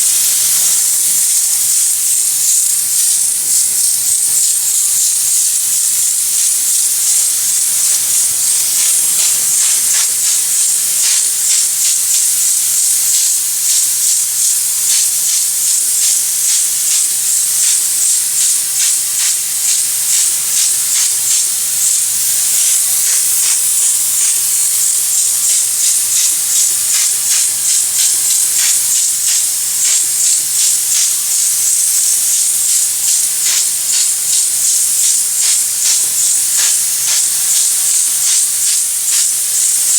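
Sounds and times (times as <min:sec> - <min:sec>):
spray gun hissing: 0:00.0 - 0:39.9.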